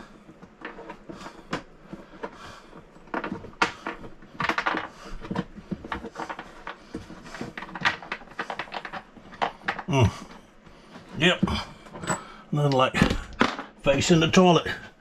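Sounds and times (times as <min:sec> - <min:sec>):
hands handling parts: 0:00.0 - 0:15.0.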